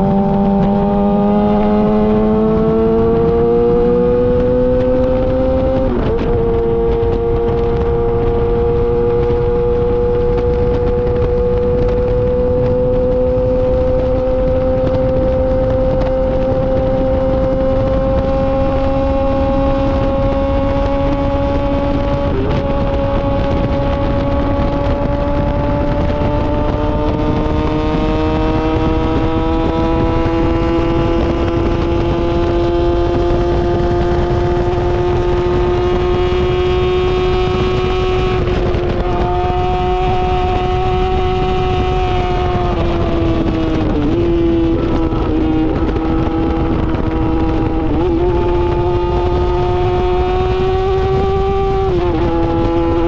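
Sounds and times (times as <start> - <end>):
sport bike engine revving: 0.0 - 53.0.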